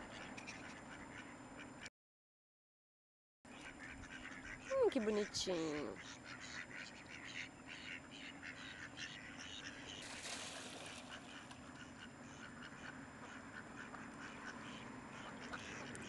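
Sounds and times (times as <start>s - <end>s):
ducks quacking: 0.0s - 1.9s, 3.5s - 16.0s.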